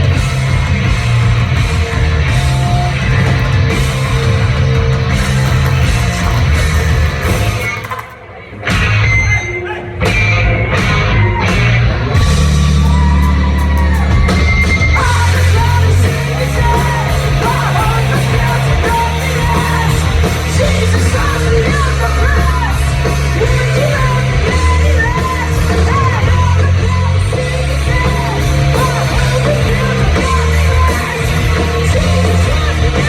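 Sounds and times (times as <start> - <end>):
singer yelling and singing: 0.0 - 5.4, 8.3 - 33.0
live rock band playing: 0.0 - 33.0.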